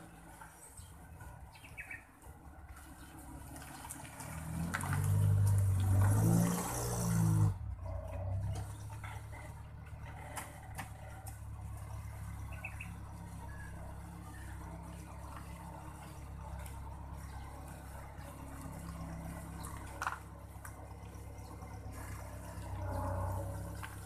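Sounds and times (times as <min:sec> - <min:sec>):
flowing ditch water: 0:00.0 - 0:24.0
truck engine approaching: 0:00.0 - 0:24.0.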